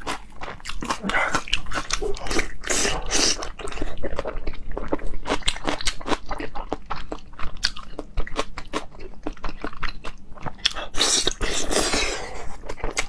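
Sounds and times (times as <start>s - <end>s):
chewing crunchy pork skin: 0.0s - 13.0s.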